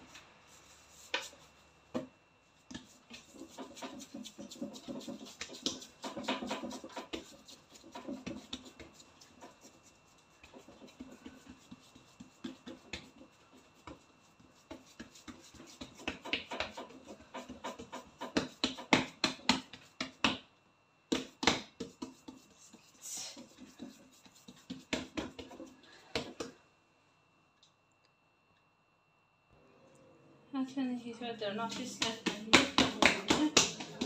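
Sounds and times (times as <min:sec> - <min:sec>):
hands rubbing and scraping dough: 0:00.0 - 0:01.7, 0:02.6 - 0:20.2, 0:21.1 - 0:26.6, 0:31.5 - 0:34.0.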